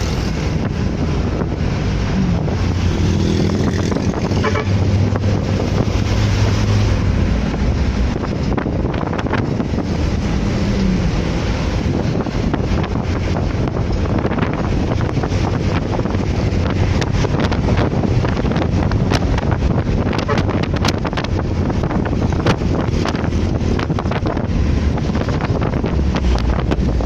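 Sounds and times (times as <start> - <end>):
low engine hum: 0.0 - 27.0
road noise: 0.0 - 27.0
wind buffeting microphone: 0.0 - 27.0.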